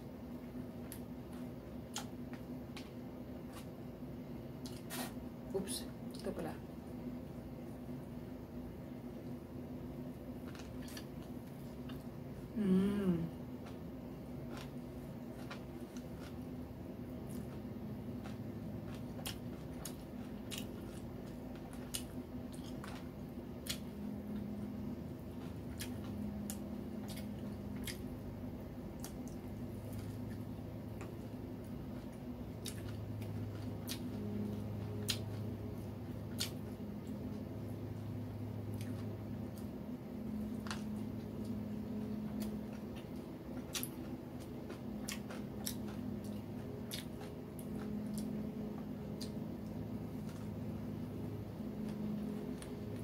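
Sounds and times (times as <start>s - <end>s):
low hum: 0.0s - 53.0s
chewing and crunching food: 0.3s - 6.6s, 9.2s - 53.0s.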